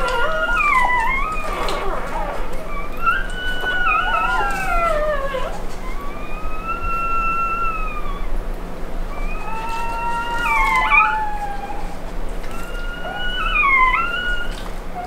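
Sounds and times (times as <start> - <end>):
dog whining: 0.0 - 15.0.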